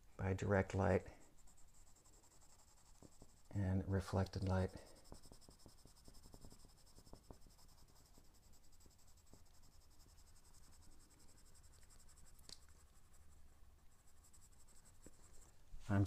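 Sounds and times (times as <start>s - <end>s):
pencil scratching on paper: 0.4s - 16.0s.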